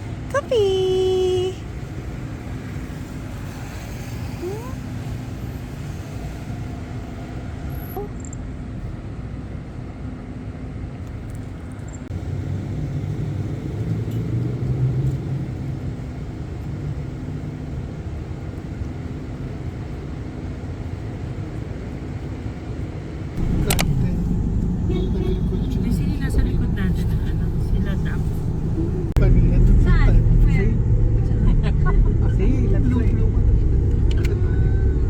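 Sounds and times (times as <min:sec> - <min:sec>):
motor vehicle rumbling: 0:00.0 - 0:35.0.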